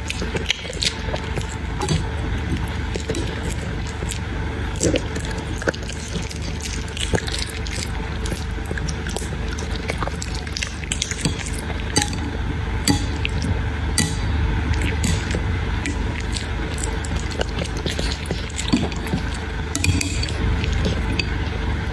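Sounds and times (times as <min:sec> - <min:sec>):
puppy eating wet food: 0:00.0 - 0:21.9
steady low hum: 0:00.0 - 0:21.9.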